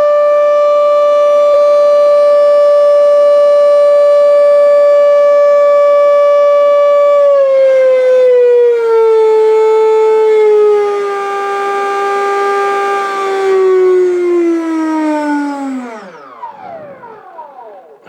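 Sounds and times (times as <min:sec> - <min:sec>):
electric ducted fan whining: 0:00.0 - 0:18.0.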